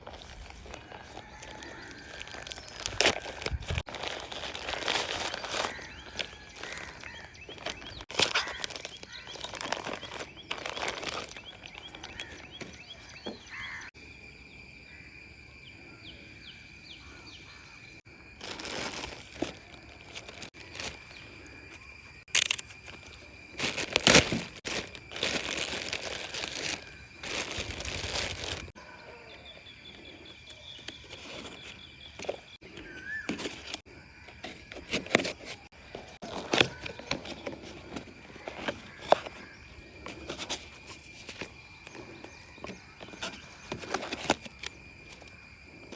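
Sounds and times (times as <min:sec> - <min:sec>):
packaging rustling: 0:00.0 - 0:13.8, 0:18.4 - 0:28.8, 0:30.9 - 0:33.8, 0:34.4 - 0:45.9.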